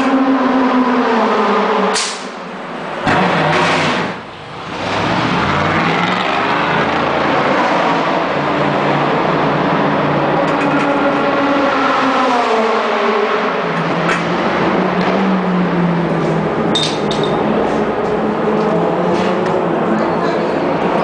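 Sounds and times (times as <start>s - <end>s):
racing car engines: 0.0s - 21.0s.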